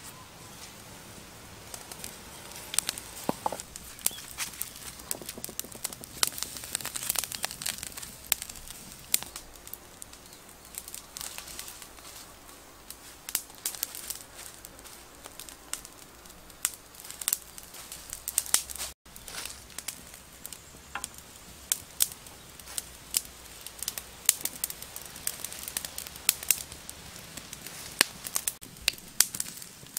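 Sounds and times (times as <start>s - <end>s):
wood fire crackling: 0.0s - 29.9s
sharp snaps and pops: 1.6s - 29.9s.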